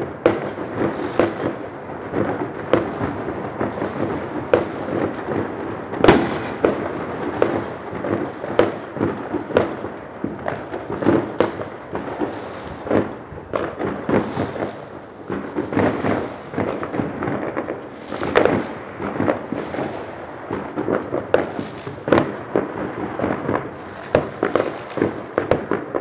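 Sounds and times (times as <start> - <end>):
fireworks banging: 0.0 - 26.0.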